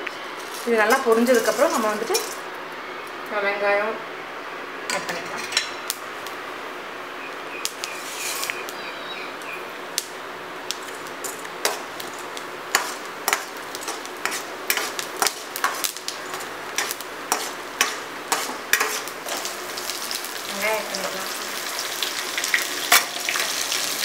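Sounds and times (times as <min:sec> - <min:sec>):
spices popping and crackling: 0:00.1 - 0:03.3, 0:07.5 - 0:24.0
spices sizzling in hot oil: 0:00.4 - 0:03.2, 0:07.2 - 0:24.0.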